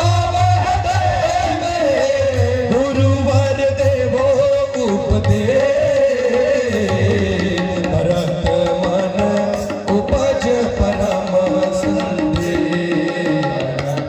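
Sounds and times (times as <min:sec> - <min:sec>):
tabla strokes: 0:00.0 - 0:14.0.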